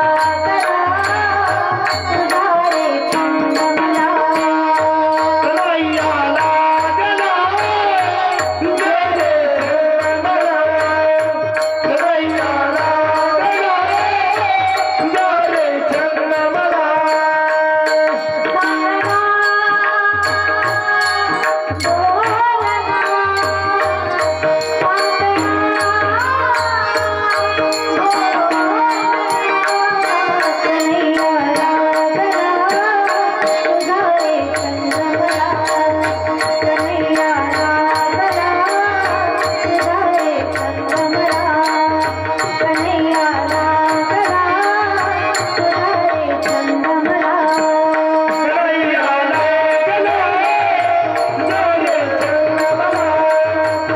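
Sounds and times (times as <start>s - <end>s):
woman singing devotional song: 0.0s - 53.9s.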